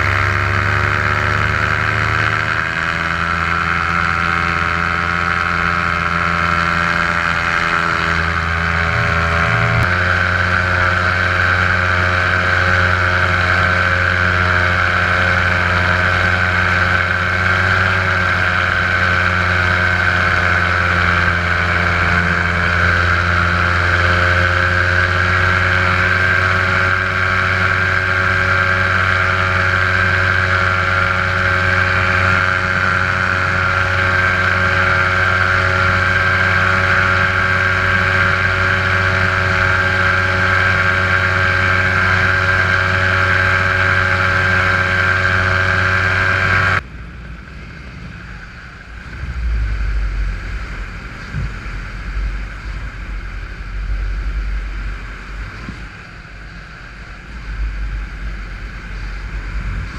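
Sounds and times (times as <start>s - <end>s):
paramotor engine running: 0.0s - 59.9s
wind rumble on microphone: 0.0s - 59.9s.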